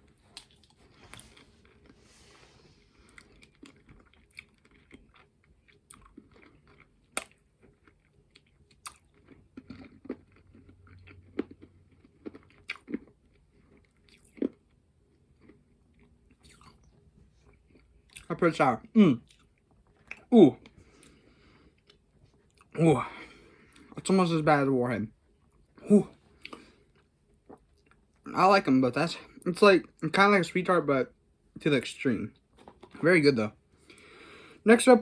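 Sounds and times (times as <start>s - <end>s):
chewing and crunching candy: 0.0s - 28.4s.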